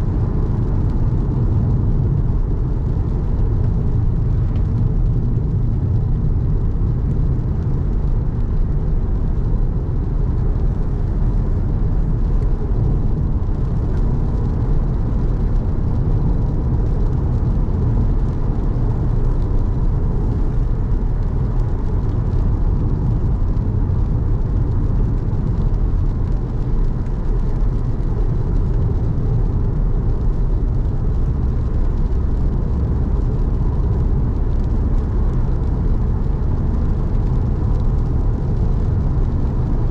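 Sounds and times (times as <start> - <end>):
car engine and tyre rumble on wet road: 0.0 - 39.9.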